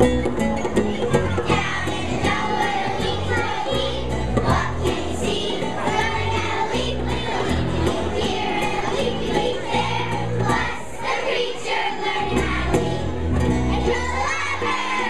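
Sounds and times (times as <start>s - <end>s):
instrumental accompaniment: 0.0s - 15.0s
children's choir singing: 0.6s - 15.0s.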